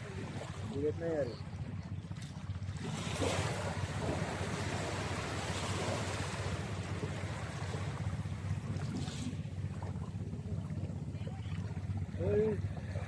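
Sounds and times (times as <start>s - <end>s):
motorboat engine running: 0.0s - 13.0s
rush of water and wind: 0.0s - 13.0s.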